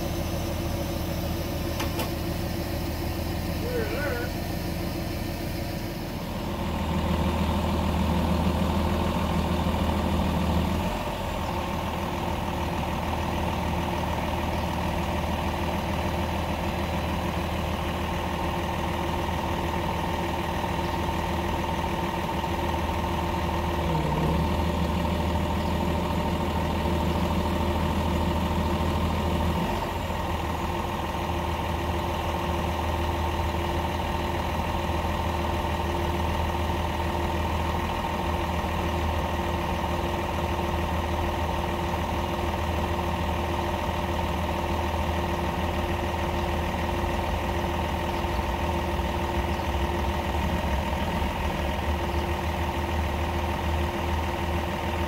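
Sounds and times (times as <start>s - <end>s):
diesel crane engine running: 0.0s - 55.0s.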